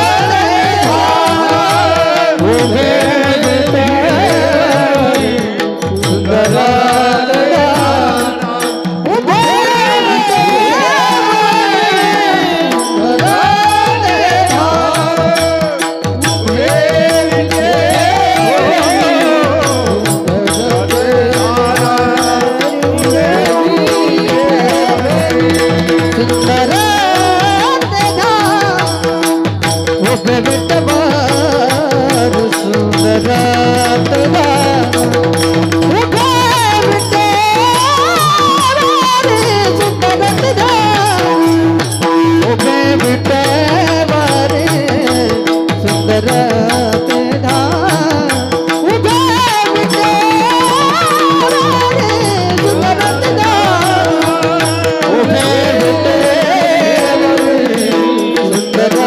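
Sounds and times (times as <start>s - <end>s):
hand drum beating: 0.0s - 59.0s
man singing in high voice: 0.0s - 59.0s
steady accompanying tone: 0.0s - 59.0s.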